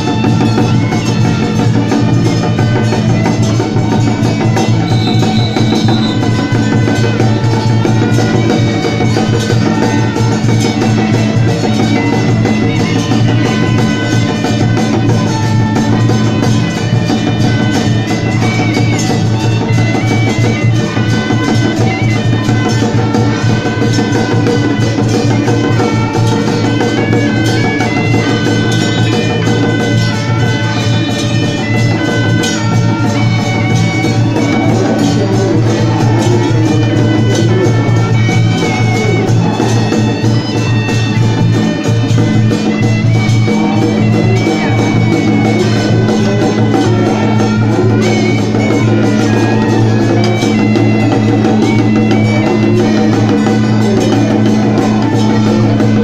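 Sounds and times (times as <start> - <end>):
drums and percussion: 0.0 - 56.0
reedy wind instrument melody: 0.0 - 56.0.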